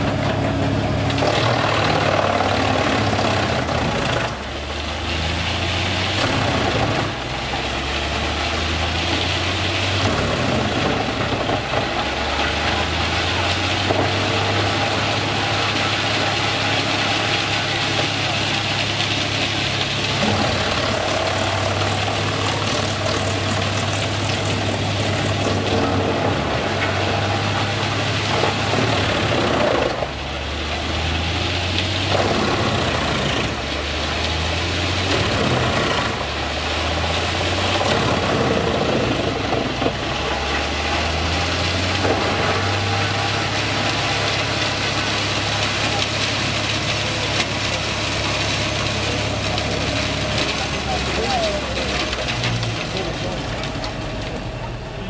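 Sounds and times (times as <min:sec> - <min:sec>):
tractor engine running: 0:00.0 - 0:55.0
wood chipper chipping logs: 0:00.0 - 0:55.0.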